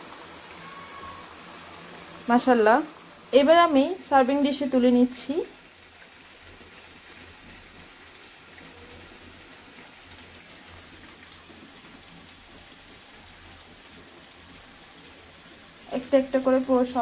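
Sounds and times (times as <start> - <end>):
gravy simmering in a pan: 0.0 - 17.0.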